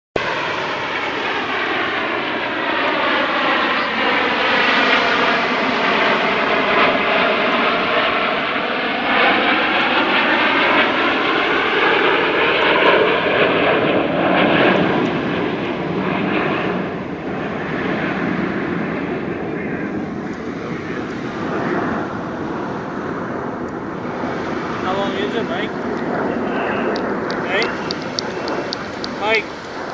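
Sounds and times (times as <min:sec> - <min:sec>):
jets flying past: 0:00.2 - 0:29.9.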